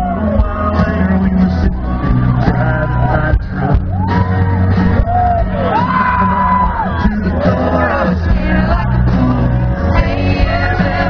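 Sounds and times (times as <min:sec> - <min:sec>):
live country band playing: 0:00.0 - 0:11.0
person singing lead vocal: 0:00.0 - 0:11.0.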